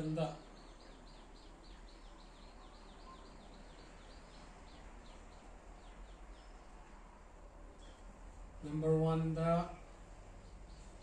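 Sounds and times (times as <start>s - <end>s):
small bird chirping: 0.0s - 7.1s, 7.7s - 8.8s, 9.8s - 11.0s.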